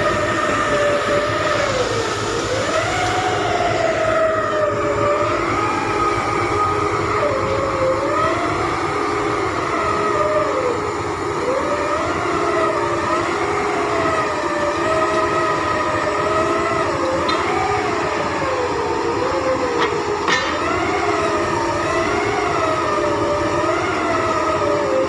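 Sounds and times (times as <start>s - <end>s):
heavy machinery whining: 0.0s - 25.0s
machinery hum and rumble: 0.0s - 25.0s.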